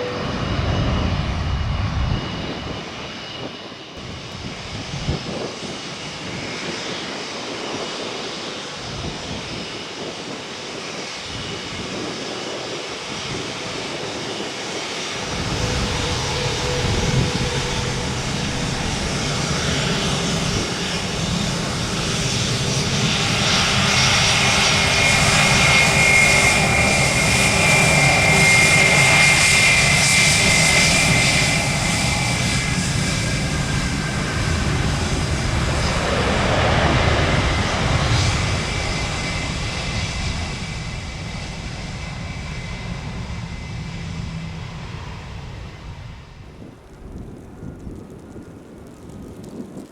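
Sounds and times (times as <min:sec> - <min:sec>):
high engine whine: 0:00.0 - 0:47.2
jet engines rumbling: 0:00.0 - 0:49.9.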